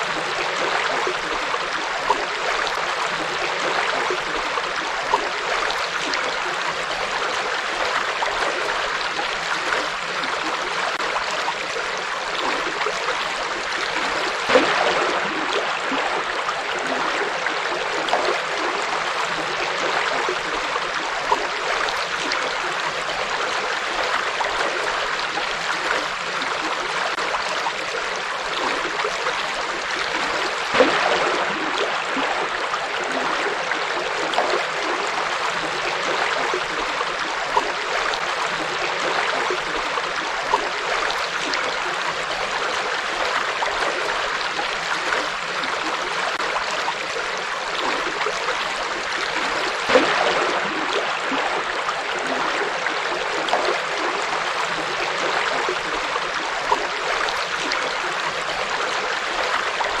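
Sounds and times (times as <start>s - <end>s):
river water flowing over rocks: 0.0s - 60.0s
water splashes: 0.0s - 60.0s.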